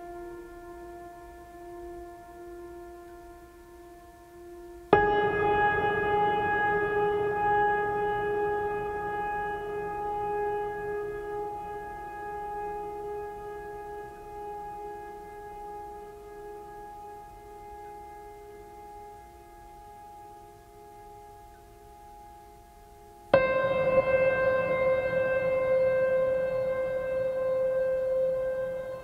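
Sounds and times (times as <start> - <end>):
sustained music chord: 0.0 - 21.7, 23.3 - 29.0.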